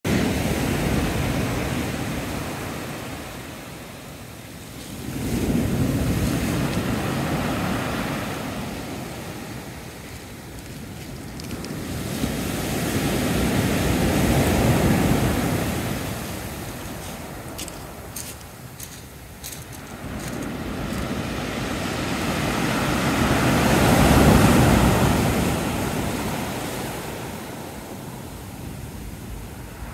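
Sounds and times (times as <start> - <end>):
sea waves breaking on shore: 0.1 - 29.9.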